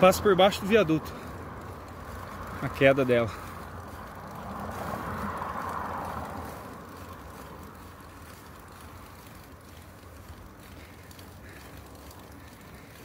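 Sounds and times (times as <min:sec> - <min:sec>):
bicycle tyres on rough asphalt: 0:00.0 - 0:13.0.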